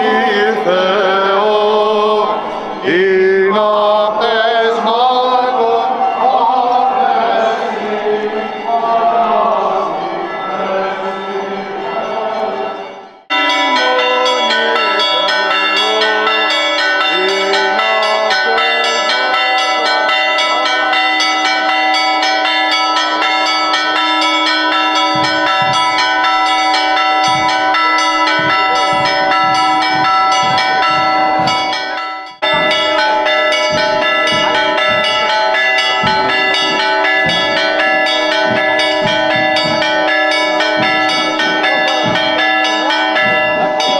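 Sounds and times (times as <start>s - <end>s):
church bells pealing: 0.0s - 43.9s
voices chanting: 0.0s - 43.9s.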